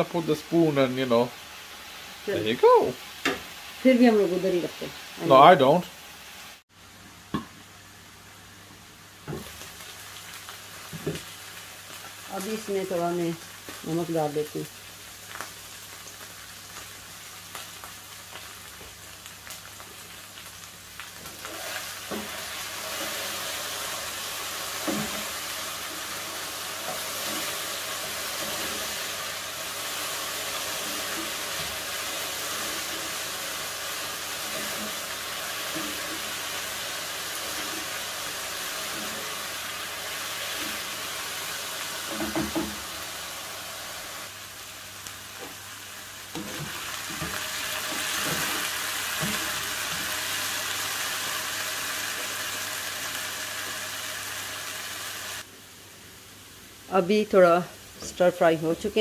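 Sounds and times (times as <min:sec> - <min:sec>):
potatoes sizzling in oil: 0:00.0 - 0:59.0.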